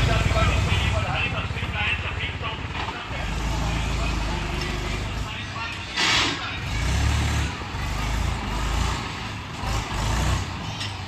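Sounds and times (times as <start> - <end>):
heavy diesel engines rumbling: 0.0 - 11.0.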